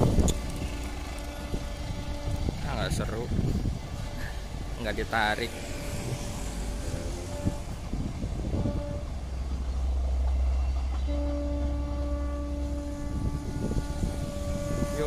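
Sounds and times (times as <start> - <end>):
two-note train horn: 0.0 - 4.4, 5.0 - 15.0
diesel train engine rumble: 0.0 - 15.0.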